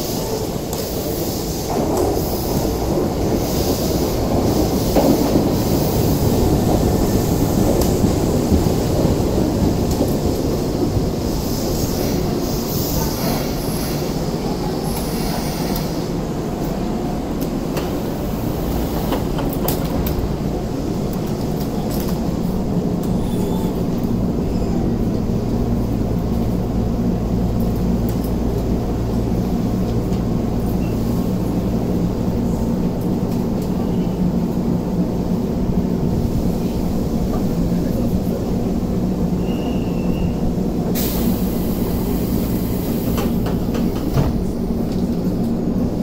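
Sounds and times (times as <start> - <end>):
train rumble and hum: 0.0 - 46.0.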